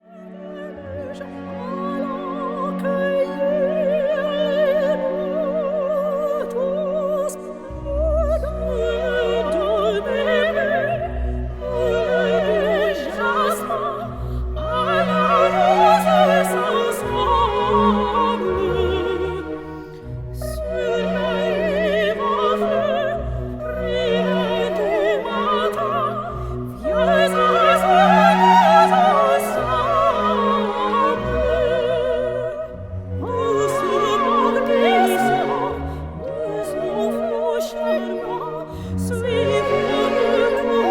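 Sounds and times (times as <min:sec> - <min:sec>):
operatic singing with vibrato: 0:00.0 - 0:40.9
orchestral accompaniment: 0:00.0 - 0:40.9.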